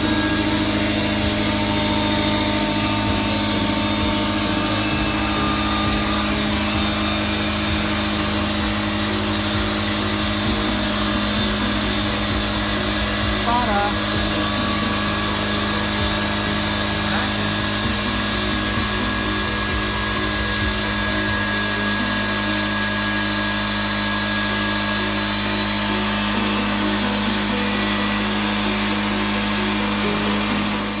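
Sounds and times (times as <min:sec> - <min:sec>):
air compressor running: 0:00.0 - 0:31.0.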